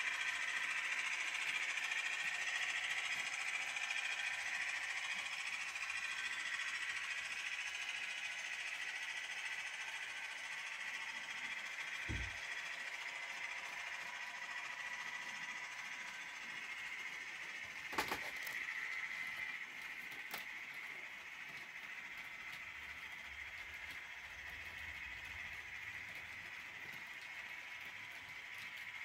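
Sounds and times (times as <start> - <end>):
model train rolling on track: 0.0 - 29.0.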